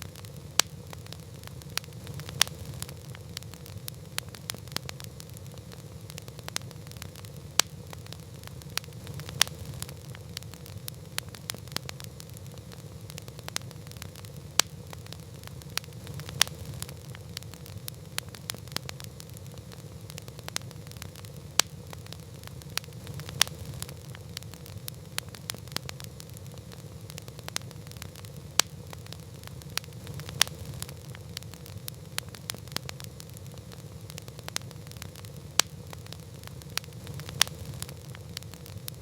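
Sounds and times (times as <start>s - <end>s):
burning wood crackling and popping: 0.0s - 39.0s
campfire roaring: 0.0s - 39.0s.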